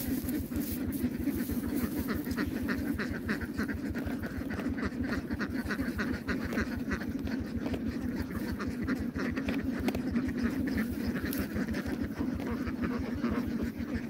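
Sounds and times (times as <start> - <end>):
ducks quacking: 0.0 - 14.0
steady low hum: 0.0 - 14.0.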